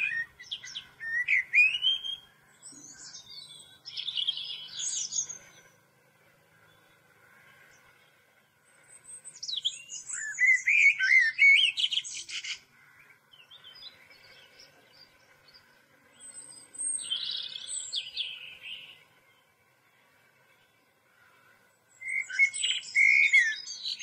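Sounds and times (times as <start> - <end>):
songbird chirping and warbling: 0.0 - 24.0.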